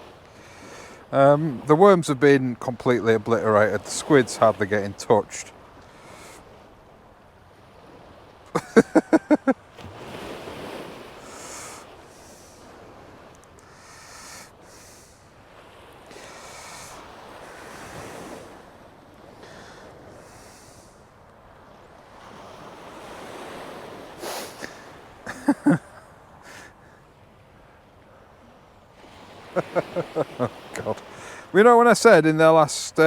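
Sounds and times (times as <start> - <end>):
water washing at the shore: 0.0 - 33.0
wind: 0.0 - 33.0.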